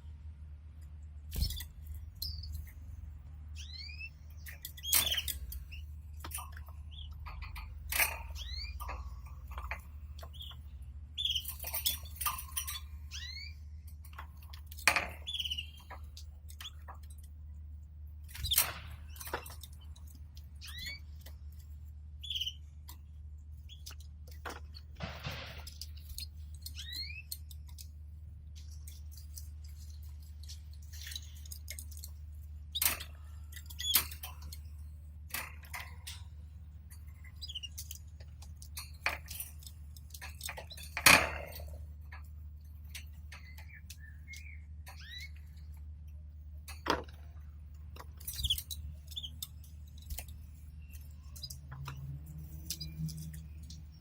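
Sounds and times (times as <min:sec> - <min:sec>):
steady low hum: 0:00.0 - 0:54.0
birds clicking in cage: 0:00.8 - 0:54.0
canaries chirping: 0:01.3 - 0:54.0.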